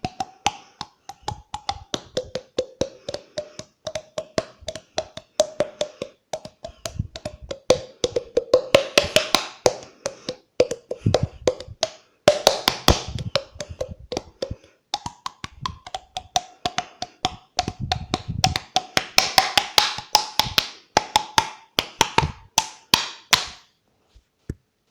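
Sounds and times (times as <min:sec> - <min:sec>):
mouth tongue clicks and pops: 0:00.0 - 0:20.6.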